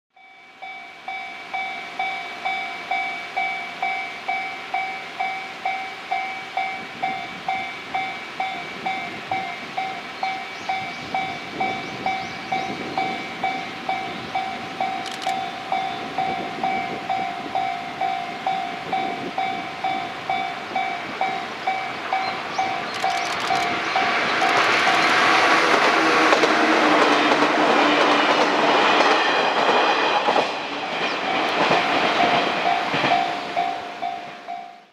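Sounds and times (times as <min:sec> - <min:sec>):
electric train passing: 0:00.2 - 0:34.9.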